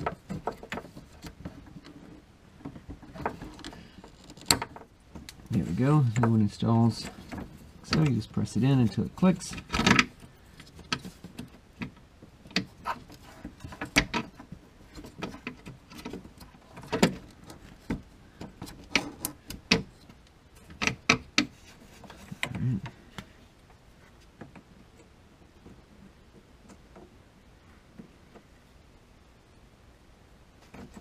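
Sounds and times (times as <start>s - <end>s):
clicks and knocks of handled parts: 0.0s - 27.1s.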